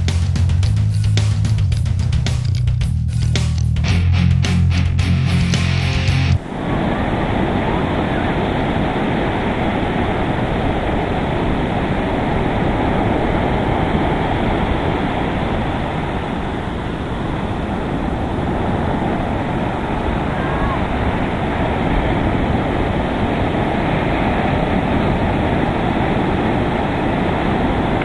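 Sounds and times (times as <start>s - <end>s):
ocean surf breaking: 3.2s - 28.0s.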